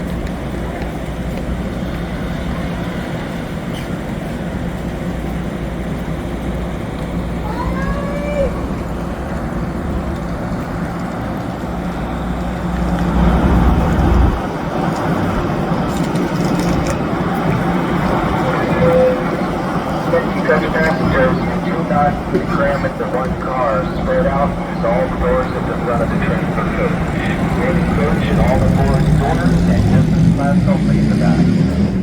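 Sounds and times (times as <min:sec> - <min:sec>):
diesel locomotive idling: 0:00.0 - 0:32.0.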